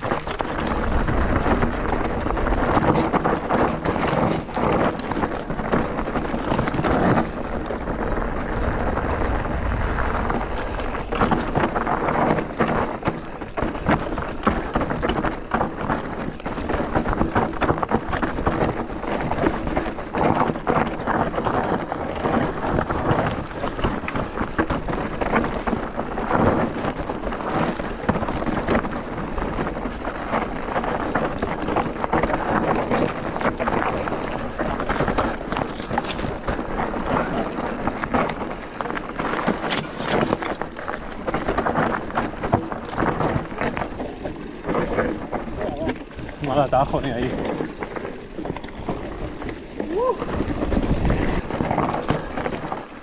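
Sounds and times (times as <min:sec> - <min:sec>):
bike tyres crunching over stones: 0:00.0 - 0:53.0.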